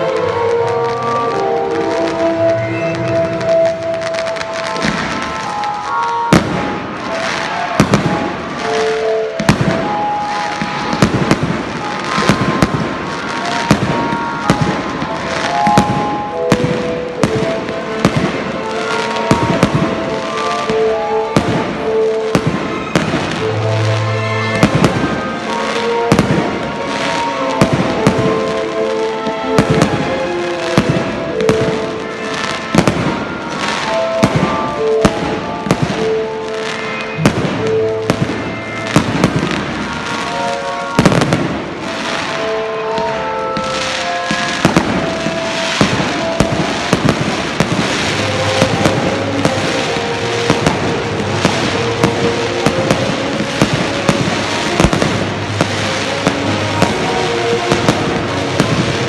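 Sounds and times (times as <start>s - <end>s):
fireworks bursting: 0.0s - 59.0s
melodic music: 0.0s - 59.0s.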